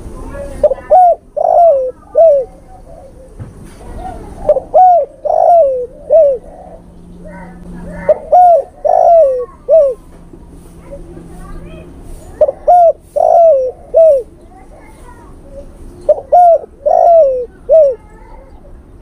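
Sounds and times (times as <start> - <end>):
dove cooing: 0.2 - 10.1, 12.3 - 18.8.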